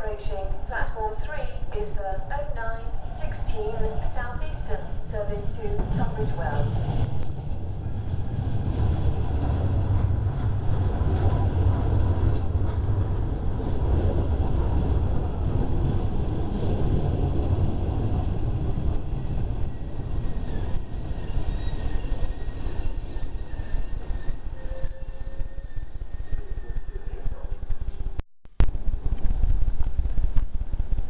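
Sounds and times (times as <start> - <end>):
train rumbling on rails: 0.0 - 28.2.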